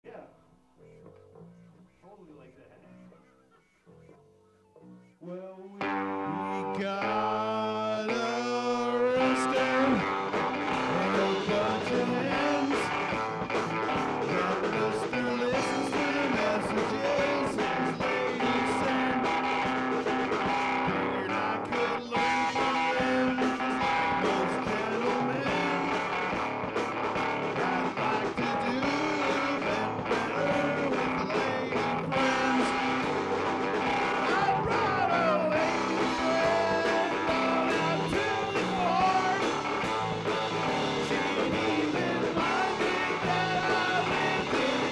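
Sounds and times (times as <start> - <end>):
electric guitar: 2.8 - 44.9
rock band playing: 5.8 - 44.9.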